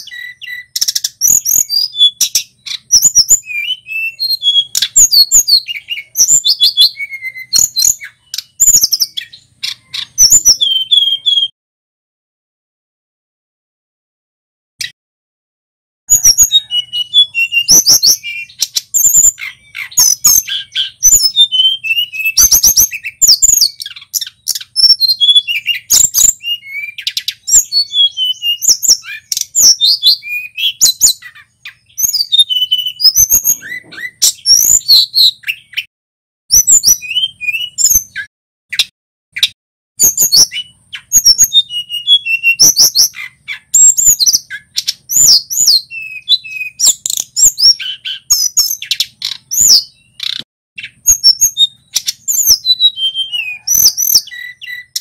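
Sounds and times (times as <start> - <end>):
bird singing chirps and trills: 0.0 - 11.5, 16.1 - 35.9, 36.5 - 55.0.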